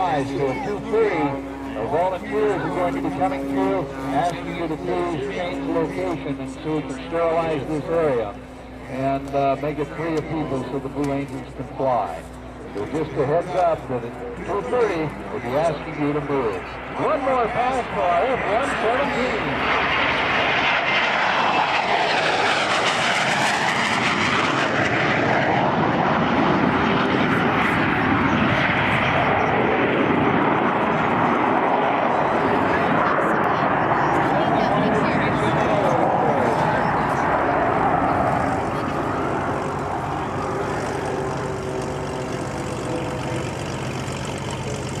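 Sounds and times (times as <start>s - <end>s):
jet aircraft flyby: 0.0s - 45.0s.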